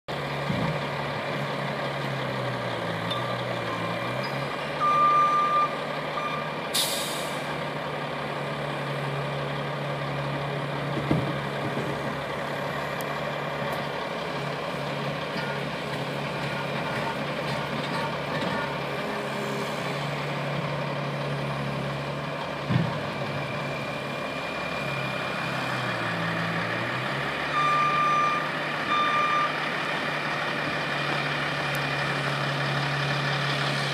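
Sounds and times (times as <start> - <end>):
loader engine running: 0.1 - 33.9.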